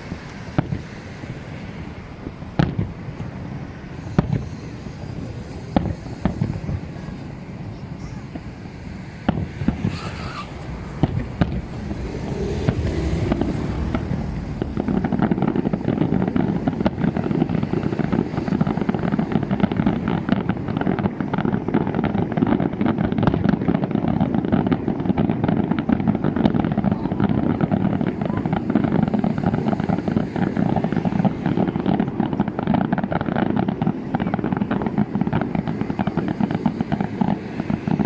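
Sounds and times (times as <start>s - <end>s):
firework bangs: 0.0s - 38.0s
firework rapid crackle: 0.0s - 38.0s.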